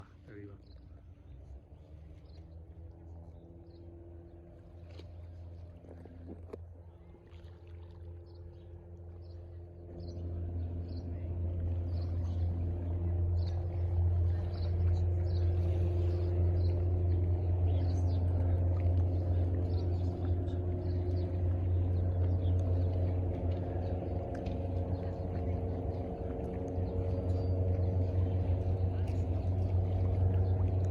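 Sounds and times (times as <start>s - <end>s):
propeller plane engine droning: 0.0s - 30.9s.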